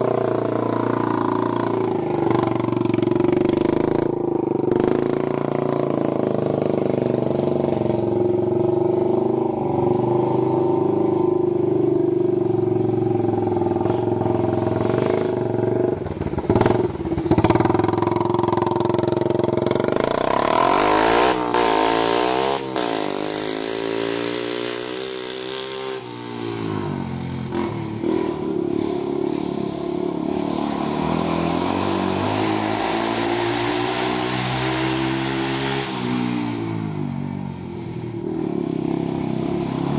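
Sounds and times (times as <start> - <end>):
atv engine running: 0.0 - 33.6.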